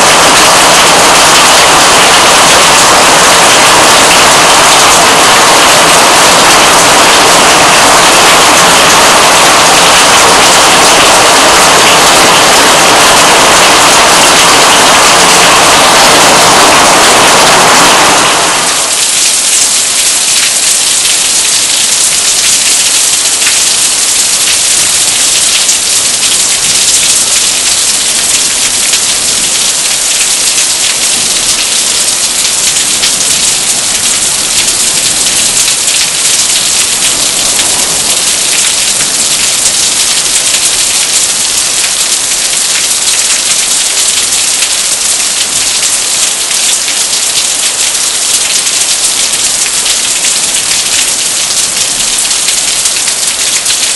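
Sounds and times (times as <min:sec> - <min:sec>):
heavy rain downpour: 0:00.0 - 0:53.9.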